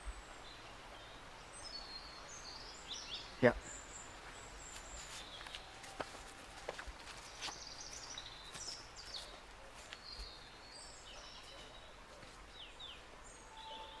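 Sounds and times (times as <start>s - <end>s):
birds chirping and singing: 0.0s - 14.0s
quiet woodland ambience: 0.0s - 14.0s.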